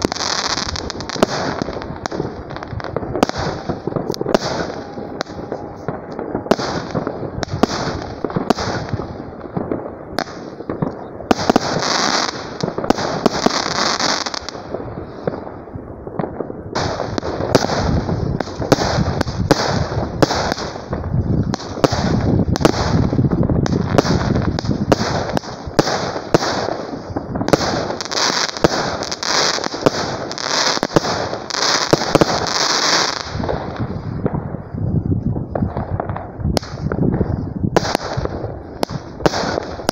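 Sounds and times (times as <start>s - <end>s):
fireworks launch and burst bangs: 0.0s - 39.9s.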